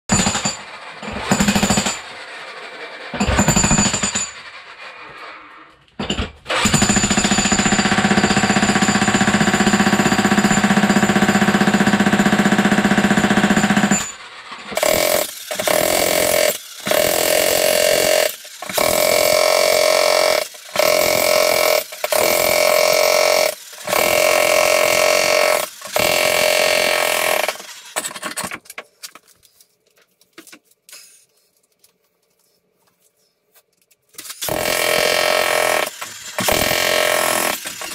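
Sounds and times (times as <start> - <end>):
jackhammer breaking concrete: 0.1 - 5.2, 6.0 - 28.6, 34.2 - 37.9.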